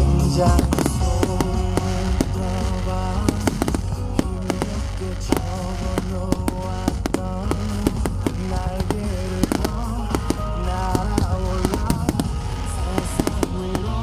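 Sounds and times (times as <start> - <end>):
music through loudspeakers: 0.0 - 14.0
fireworks bangs and pops: 0.3 - 14.0.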